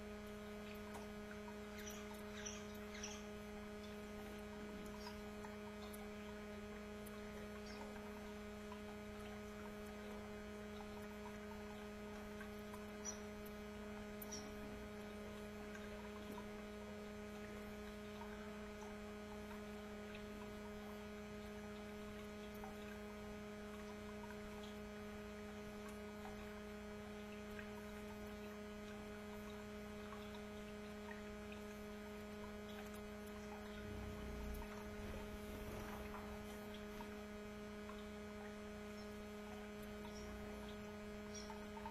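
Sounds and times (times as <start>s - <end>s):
low electrical hum: 0.0s - 41.9s.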